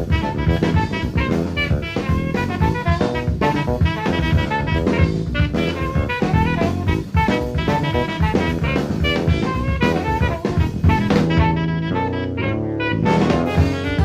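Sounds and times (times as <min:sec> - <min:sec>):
alto saxophone: 0:00.0 - 0:14.0
drum kit: 0:00.0 - 0:14.0
electric bass: 0:00.0 - 0:14.0.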